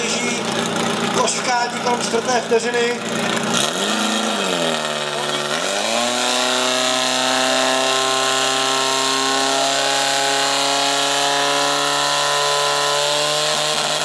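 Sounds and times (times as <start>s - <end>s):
pump engine running hard: 0.0s - 14.0s.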